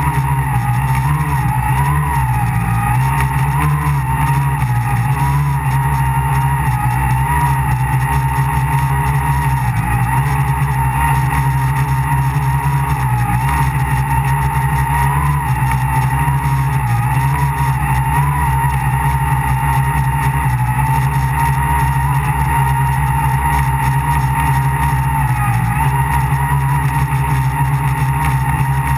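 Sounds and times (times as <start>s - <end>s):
drone motors buzzing and whining: 0.0s - 28.9s.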